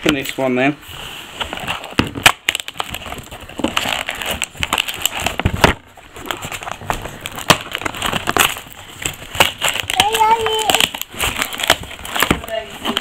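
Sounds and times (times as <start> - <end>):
cardboard box crackling and rustling: 0.9 - 13.0.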